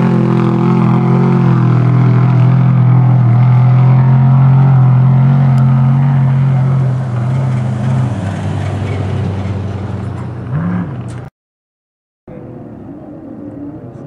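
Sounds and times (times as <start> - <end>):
truck engine running hard: 0.0 - 11.3.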